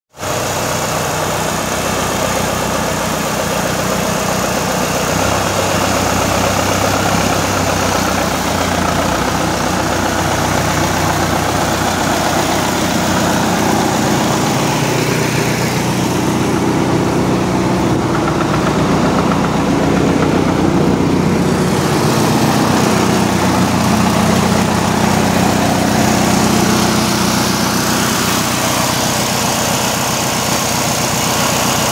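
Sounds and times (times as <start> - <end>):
tractor diesel engine idling: 0.1 - 31.9.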